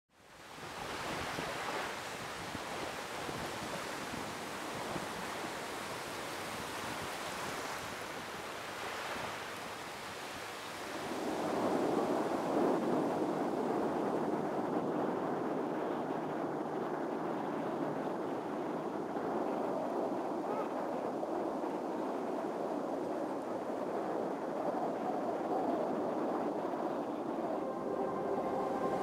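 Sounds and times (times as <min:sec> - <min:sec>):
ocean surf on beach: 0:00.2 - 0:29.0.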